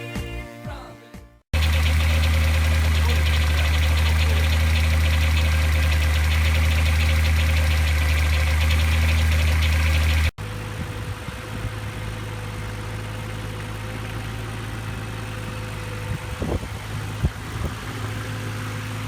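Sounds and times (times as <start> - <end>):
car engine idling: 1.6 - 19.0.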